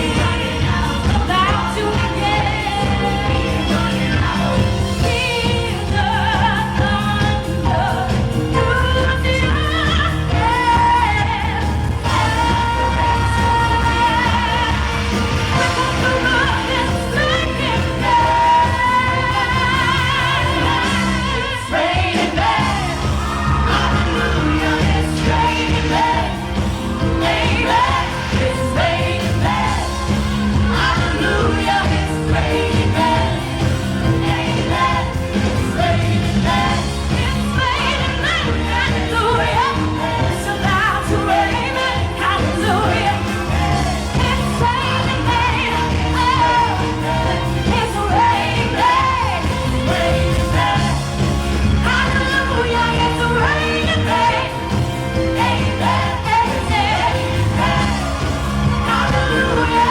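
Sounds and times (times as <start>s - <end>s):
band playing: 0.0s - 59.9s
woman singing pop song: 0.0s - 59.9s.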